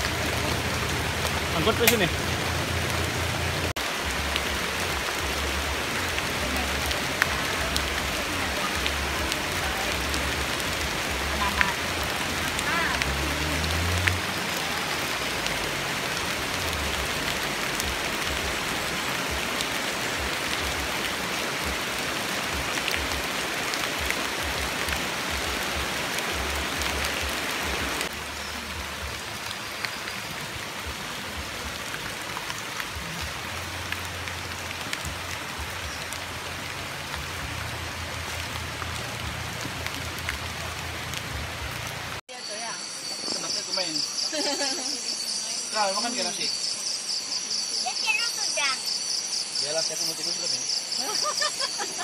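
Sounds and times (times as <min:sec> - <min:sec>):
steady rainfall: 0:00.0 - 0:52.0.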